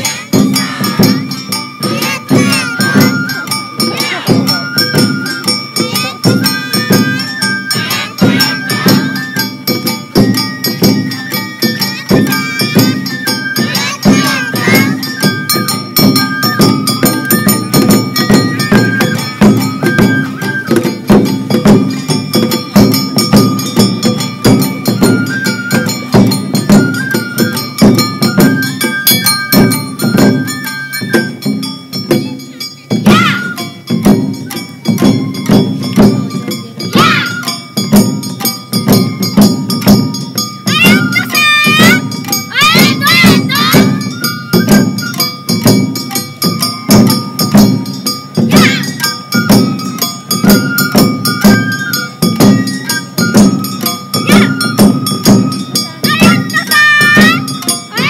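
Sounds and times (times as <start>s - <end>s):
high flute melody: 0.0s - 22.6s, 23.2s - 32.1s, 33.0s - 38.2s, 40.4s - 58.0s
clanging bell: 0.0s - 58.0s
taiko drums: 0.0s - 58.0s.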